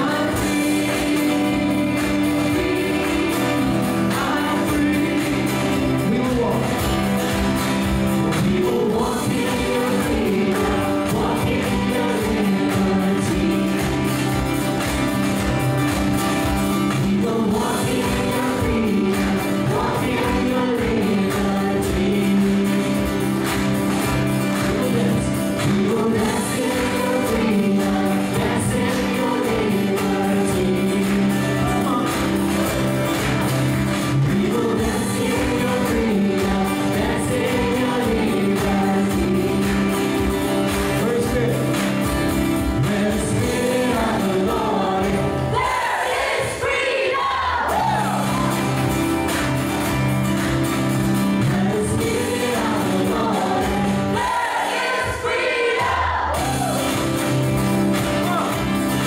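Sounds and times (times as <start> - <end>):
acoustic guitar: 0.0 - 59.0
keyboard: 0.0 - 59.0
people singing: 0.0 - 59.0.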